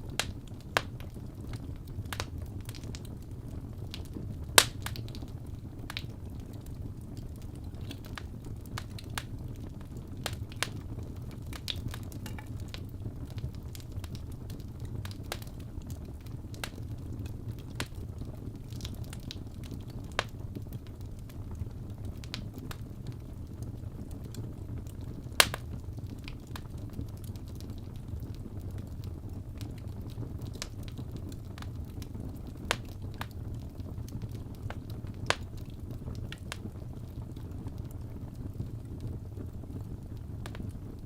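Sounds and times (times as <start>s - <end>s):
fire crackling and popping: 0.0s - 41.0s
fire flames rumbling: 0.0s - 41.0s.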